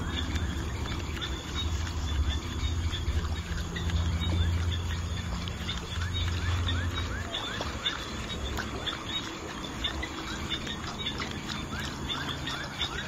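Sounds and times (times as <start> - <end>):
bird chirping: 0.0 - 13.0
insects: 0.0 - 13.0
steady low hum: 0.0 - 13.0.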